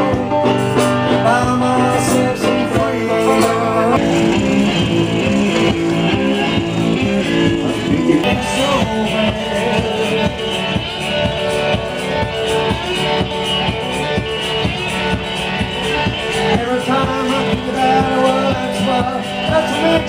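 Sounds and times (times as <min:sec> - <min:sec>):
strummed guitar: 0:00.0 - 0:20.0
stomp box kick-drum beat: 0:02.8 - 0:20.0.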